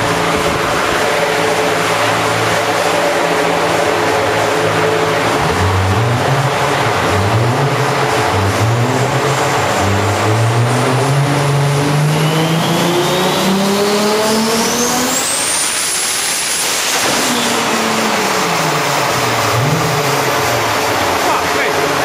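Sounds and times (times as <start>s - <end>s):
car engine revving on dyno: 0.0s - 22.0s.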